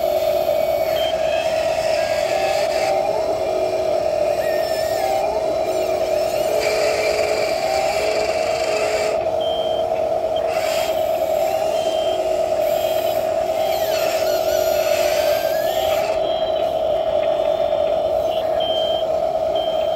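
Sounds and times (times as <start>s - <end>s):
steady electronic whine: 0.0s - 19.9s.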